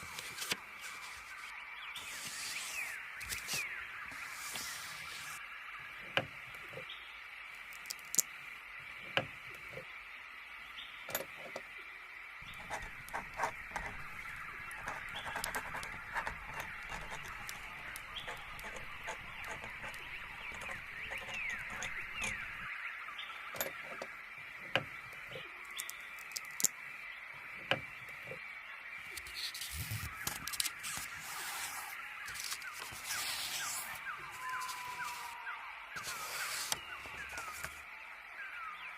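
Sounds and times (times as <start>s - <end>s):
small birds chirping: 0.0s - 11.8s, 12.4s - 38.9s.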